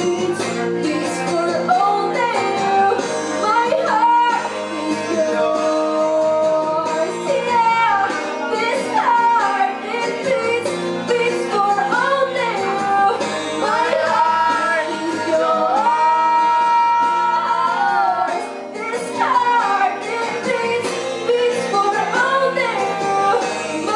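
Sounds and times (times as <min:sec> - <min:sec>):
guitar accompaniment: 0:00.0 - 0:23.9
woman singing into a microphone: 0:00.0 - 0:23.9.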